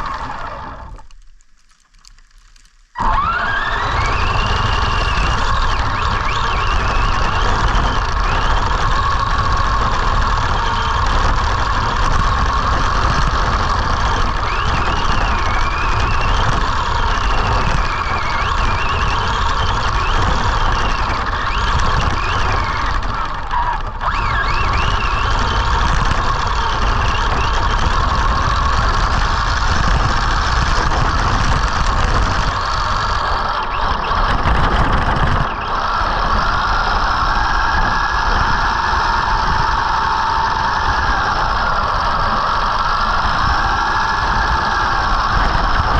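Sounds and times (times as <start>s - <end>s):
rc truck electric motor whining: 0.0s - 1.2s, 3.0s - 45.9s
tyres on snow: 0.0s - 45.9s
wind rumble: 2.0s - 45.9s.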